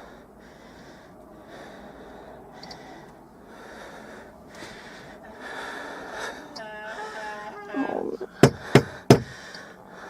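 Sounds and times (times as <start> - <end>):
person breathing heavily: 0.0 - 10.0.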